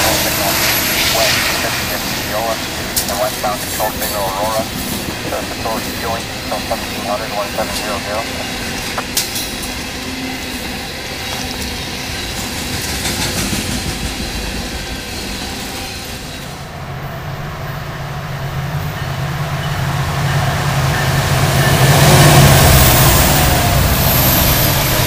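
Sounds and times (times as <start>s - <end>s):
diesel locomotive engine drone: 0.0s - 25.0s
wheel and rail noise: 0.0s - 25.0s.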